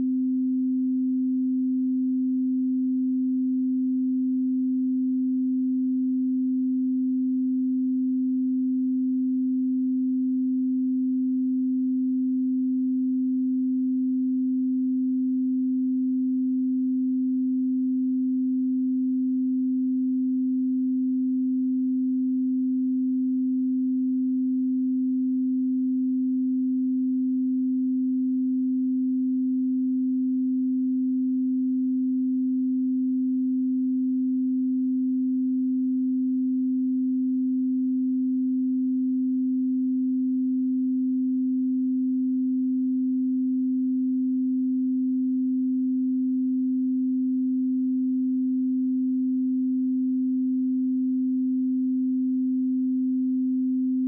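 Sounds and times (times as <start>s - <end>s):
sine wave test tone: 0.0s - 54.0s.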